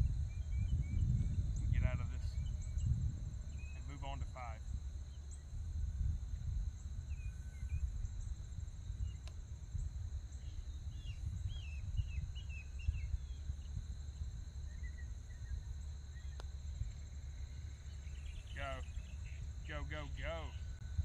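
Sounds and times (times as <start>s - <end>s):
bird chirping: 0.0s - 5.6s, 9.0s - 21.0s
insects droning: 0.0s - 21.0s
wind rumbling on microphone: 0.0s - 21.0s.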